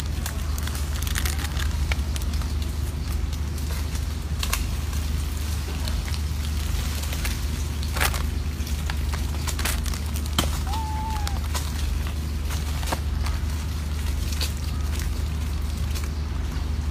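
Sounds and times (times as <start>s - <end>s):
plastic wrappers crackling: 0.0s - 16.2s.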